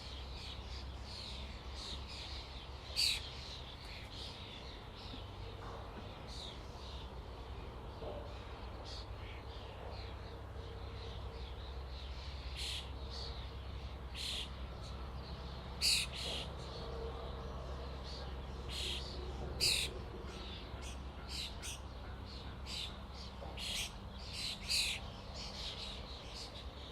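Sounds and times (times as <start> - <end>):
starlings calling: 0.0 - 17.2, 18.0 - 26.9.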